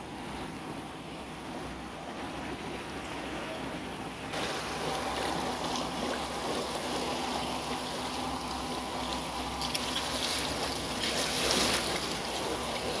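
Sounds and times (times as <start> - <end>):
steady low hum: 0.0 - 13.0
water splashing along boat hull: 0.0 - 13.0.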